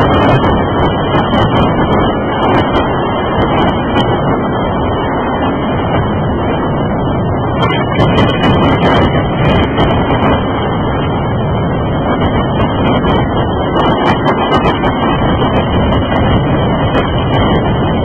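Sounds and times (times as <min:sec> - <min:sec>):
freight train cars rolling: 0:00.0 - 0:18.0.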